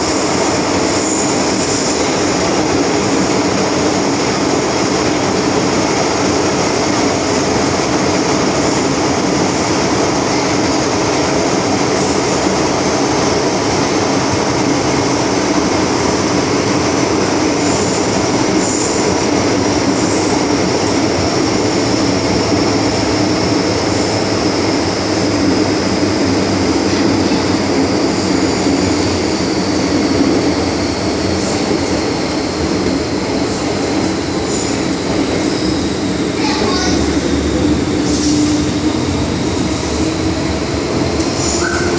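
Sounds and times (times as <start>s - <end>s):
high train whine: 0.0s - 41.9s
train wheels rumbling on track: 0.0s - 41.9s.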